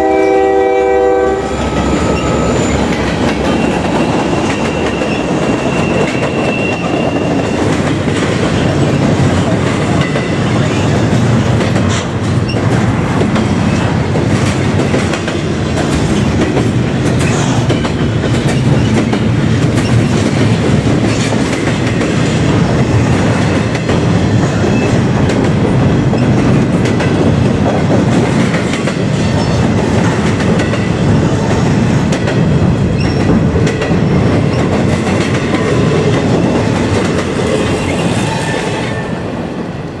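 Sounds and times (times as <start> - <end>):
steel wheels rumbling on rail: 0.0 - 40.0.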